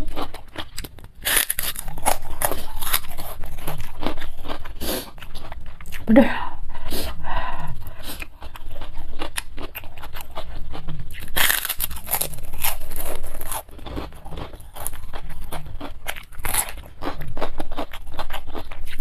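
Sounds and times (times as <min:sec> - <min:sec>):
crackers crunching while chewed: 0:00.0 - 0:06.1, 0:07.1 - 0:19.0.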